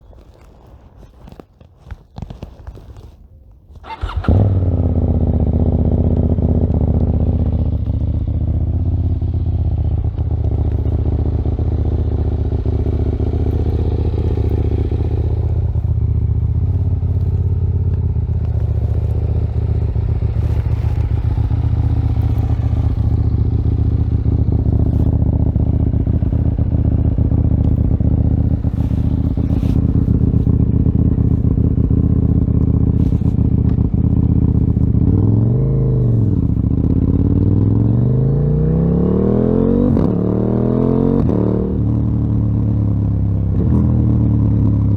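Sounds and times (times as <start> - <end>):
motorcycle engine starting and idling: 3.7 - 44.9.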